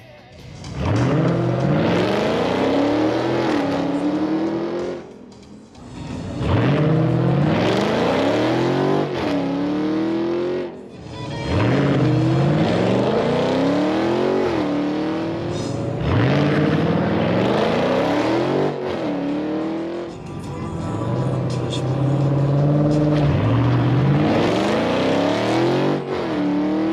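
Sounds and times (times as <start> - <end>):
cars accelerating hard: 0.6 - 26.9.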